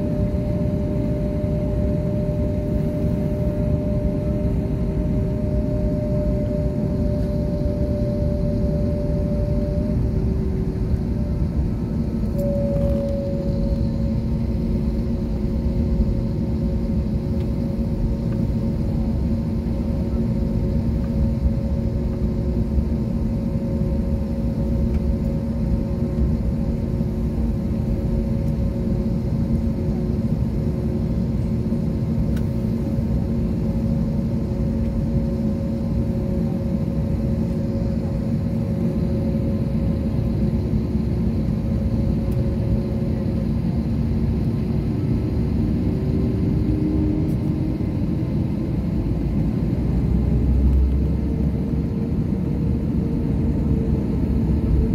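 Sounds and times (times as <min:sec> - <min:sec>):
jet engines idling: 0:00.0 - 0:54.9.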